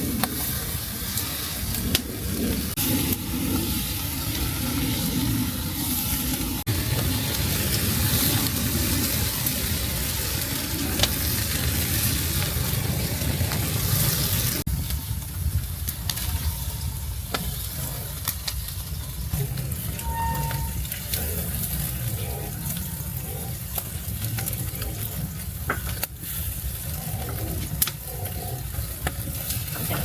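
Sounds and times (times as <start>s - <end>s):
food sizzling: 0.0s - 30.0s.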